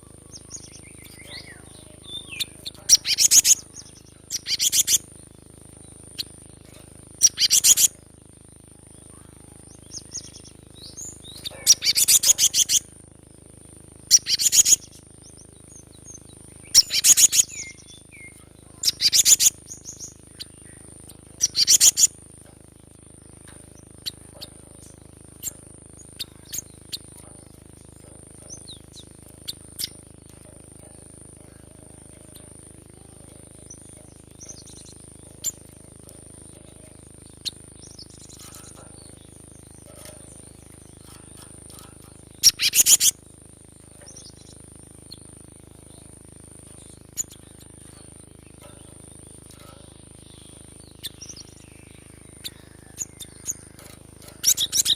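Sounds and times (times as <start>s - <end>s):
bird chirping: 0.0s - 8.0s, 8.9s - 13.0s, 14.0s - 54.9s
faint high-pitched whine: 0.0s - 54.9s.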